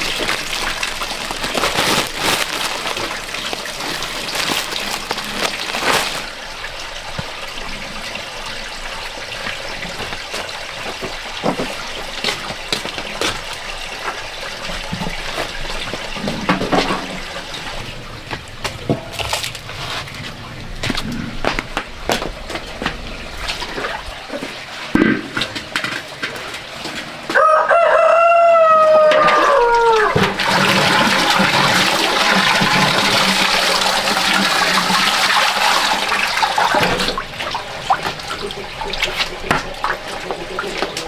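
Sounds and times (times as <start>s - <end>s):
water running and splashing: 0.0s - 41.0s.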